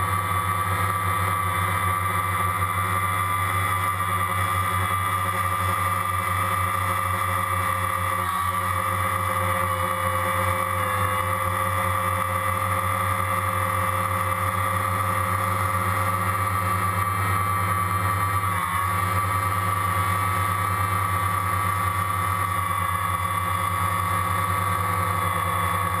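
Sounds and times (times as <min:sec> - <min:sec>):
aircraft motor drone: 0:00.0 - 0:26.0.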